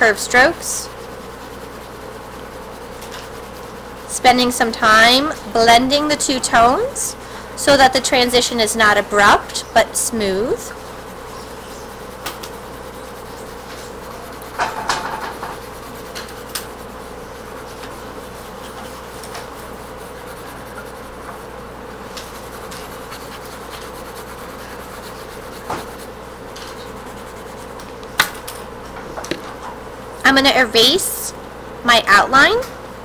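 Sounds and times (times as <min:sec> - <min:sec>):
steady hum: 0:00.0 - 0:33.0
pencil shading on paper: 0:00.3 - 0:06.7, 0:07.7 - 0:27.8.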